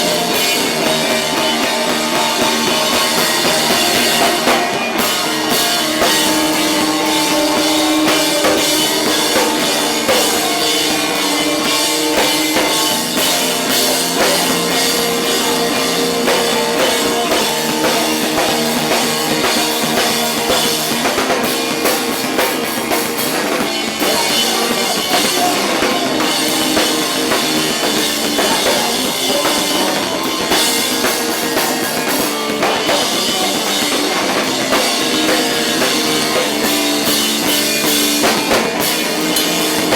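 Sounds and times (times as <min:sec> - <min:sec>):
rock band playing loud: 0:00.0 - 0:39.9.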